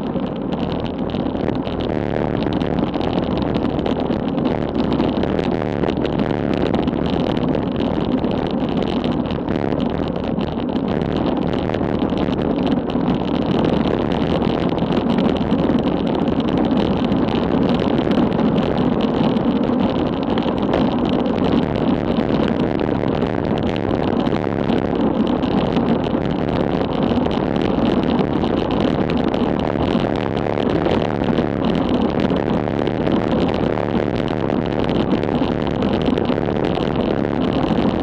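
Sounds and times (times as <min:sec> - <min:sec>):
tyre noise on asphalt: 0:00.0 - 0:38.0
wind rushing over microphone: 0:00.0 - 0:38.0.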